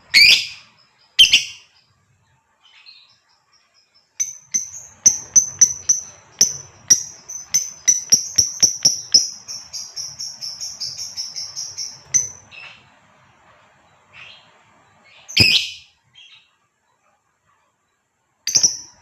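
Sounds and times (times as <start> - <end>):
lovebird chirping: 0.0 - 1.9, 2.6 - 13.0, 14.1 - 16.6, 18.5 - 19.0.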